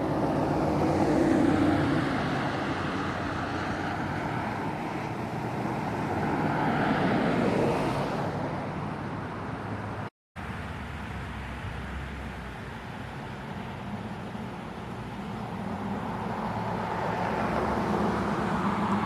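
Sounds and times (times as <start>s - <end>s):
cars driving past: 0.0s - 19.0s
low engine hum: 0.0s - 19.0s.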